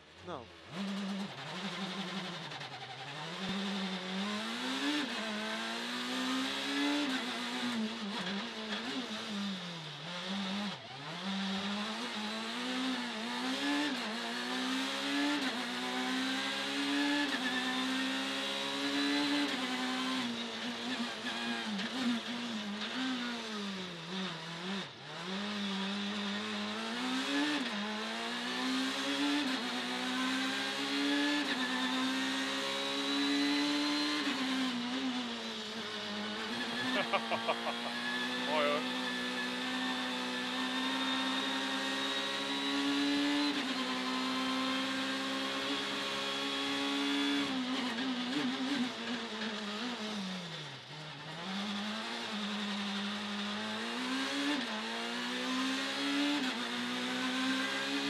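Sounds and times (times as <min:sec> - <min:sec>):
rally car engine revving: 0:00.1 - 0:58.0.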